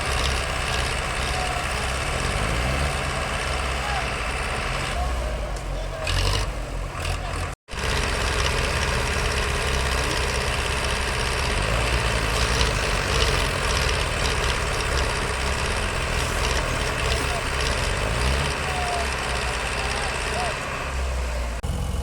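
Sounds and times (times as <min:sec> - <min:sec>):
heavy diesel machinery rumbling: 0:00.0 - 0:22.0.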